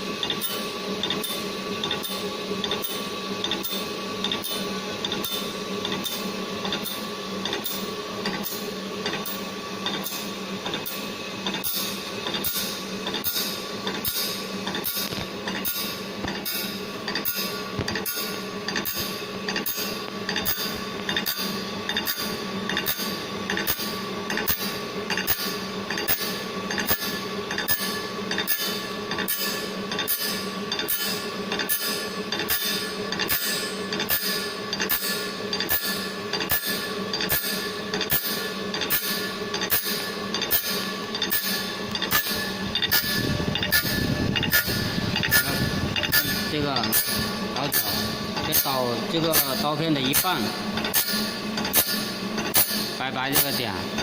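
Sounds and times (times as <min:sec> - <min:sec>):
saw blade grinding machine: 0:00.0 - 0:54.0.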